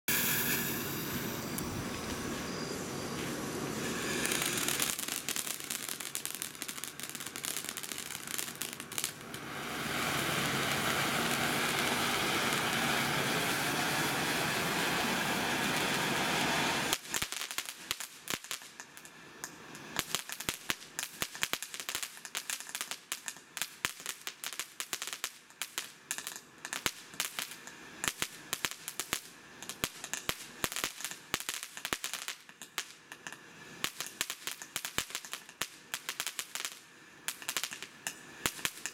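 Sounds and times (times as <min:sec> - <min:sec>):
firework crackling pops: 0:00.1 - 0:38.9
firework hissing: 0:00.1 - 0:38.9.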